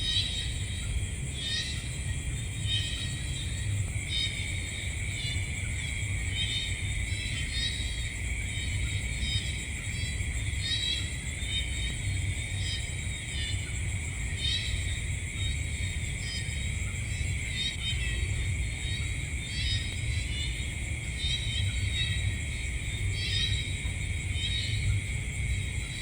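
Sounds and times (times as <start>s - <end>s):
insect chirps: 0.0s - 26.0s
insects trilling: 0.0s - 26.0s.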